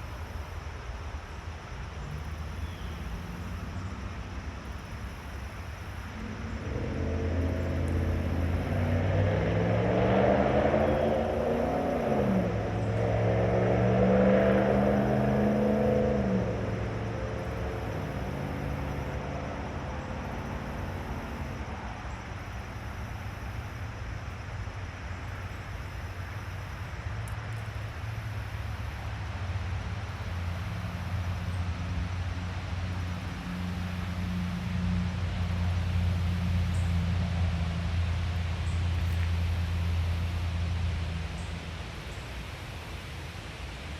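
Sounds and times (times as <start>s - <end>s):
vehicle engine accelerating: 5.8s - 43.9s.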